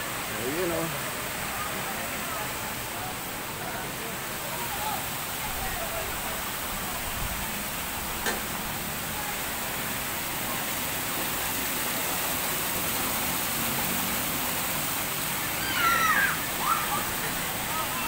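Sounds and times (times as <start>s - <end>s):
water rushing in a pool: 0.0s - 18.0s.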